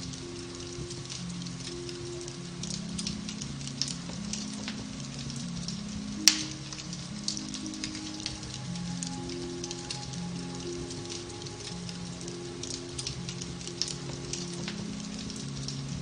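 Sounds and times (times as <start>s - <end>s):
fire crackling and popping: 0.0s - 16.0s
soft background music: 0.0s - 16.0s.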